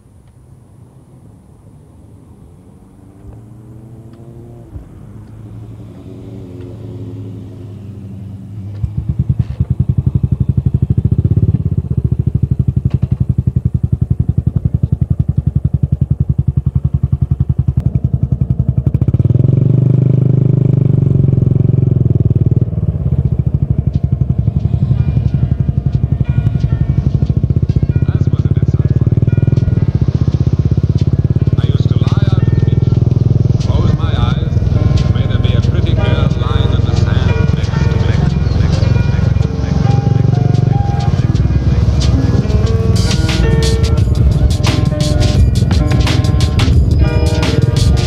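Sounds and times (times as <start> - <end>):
single-cylinder motorcycle engine: 0.0 - 48.0.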